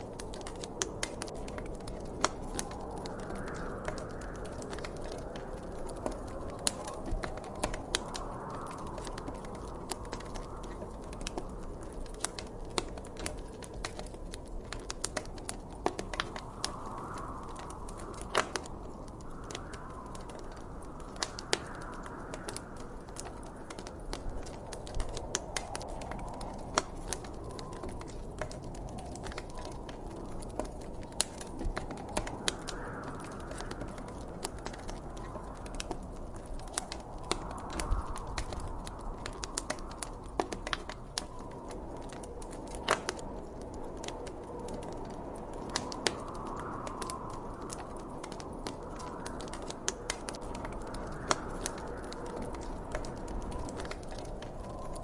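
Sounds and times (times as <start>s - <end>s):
soft gusting wind: 0.0s - 55.0s
wood fire crackling and popping: 0.0s - 55.0s.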